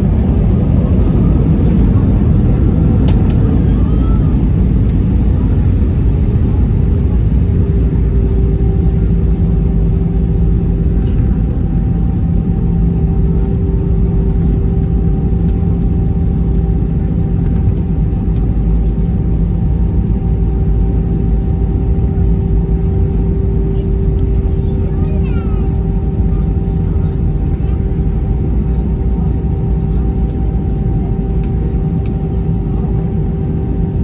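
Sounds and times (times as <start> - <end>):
aircraft engine rumble: 0.0 - 34.0.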